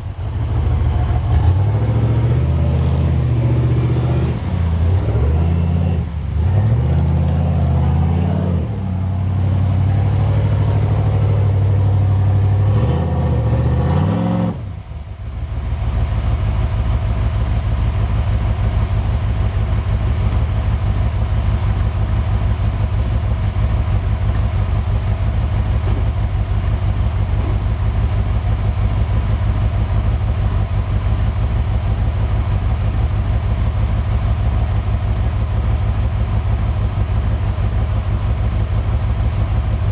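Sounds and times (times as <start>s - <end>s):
truck engine revving and idling: 0.0s - 39.9s.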